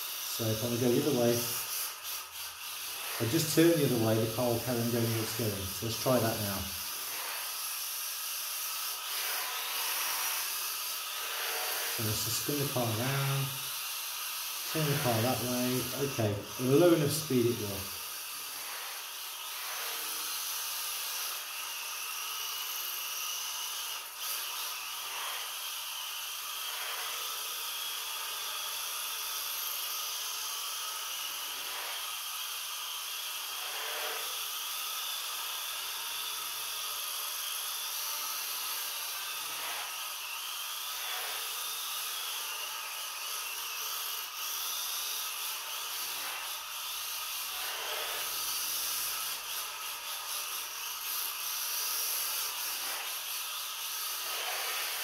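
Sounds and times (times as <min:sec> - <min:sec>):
small electric motor whining: 0:00.0 - 0:55.0.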